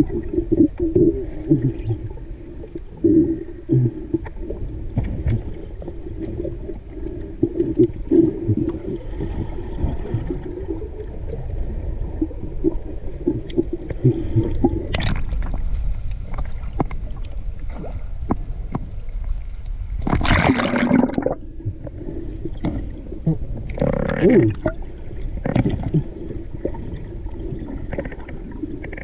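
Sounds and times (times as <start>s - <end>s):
water splashing: 0.0s - 18.4s, 20.0s - 29.0s
muffled underwater rumble: 0.0s - 29.0s.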